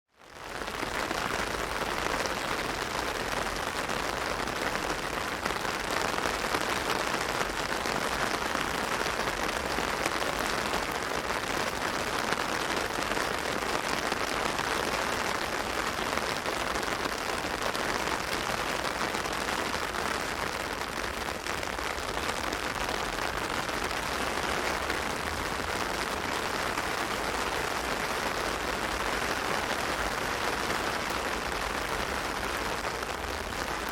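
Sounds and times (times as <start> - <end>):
heavy rain on an umbrella: 0.1 - 33.9.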